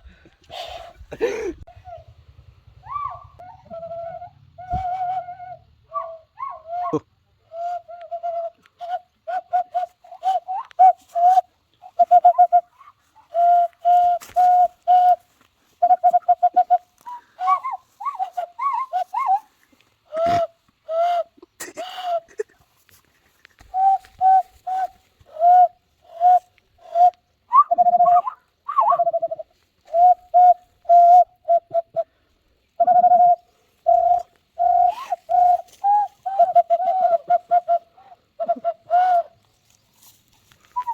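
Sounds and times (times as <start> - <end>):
people whistling bird calls: 2.8 - 12.7, 13.3 - 19.5, 20.2 - 21.4, 23.7 - 32.1, 32.8 - 39.8, 40.7 - 40.9.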